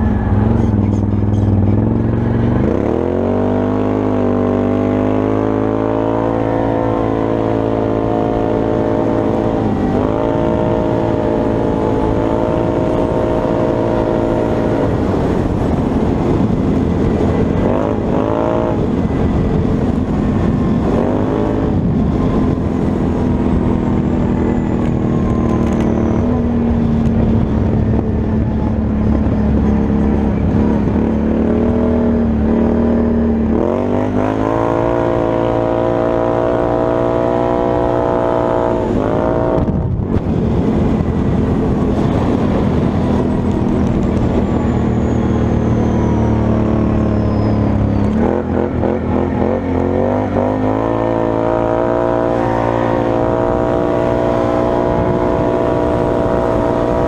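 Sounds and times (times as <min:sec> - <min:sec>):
atv engine accelerating: 0:00.0 - 0:57.0.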